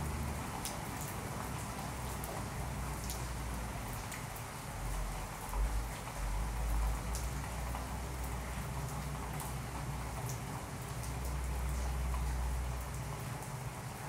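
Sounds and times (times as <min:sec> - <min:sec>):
rain-like hiss: 0:00.0 - 0:14.0
drip-like ticks: 0:00.6 - 0:03.3, 0:03.9 - 0:13.6.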